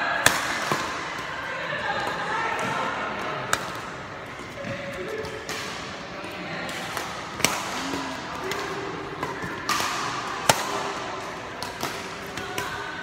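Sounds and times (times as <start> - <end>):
rackets hitting shuttlecock: 0.1 - 1.4, 2.0 - 13.0.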